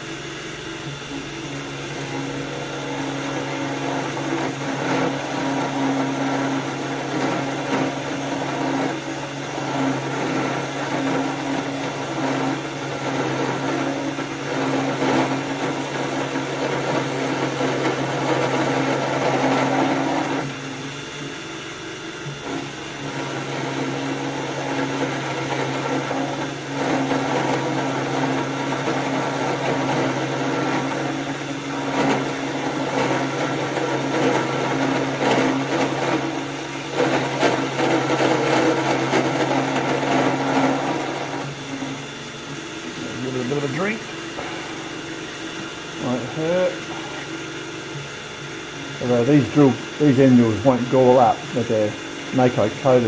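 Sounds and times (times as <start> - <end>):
end mill cutting metal: 0.0 - 53.0
motor hum: 0.0 - 53.0.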